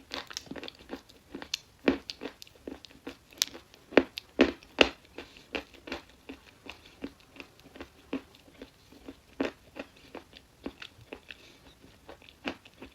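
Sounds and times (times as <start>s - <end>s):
chalk being chewed: 0.1s - 12.9s.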